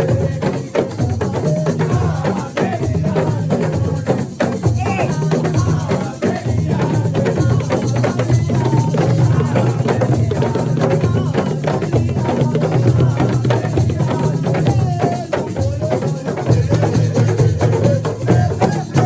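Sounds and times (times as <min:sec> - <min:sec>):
hand drums and percussion: 0:00.0 - 0:19.0
voices singing: 0:00.0 - 0:19.0.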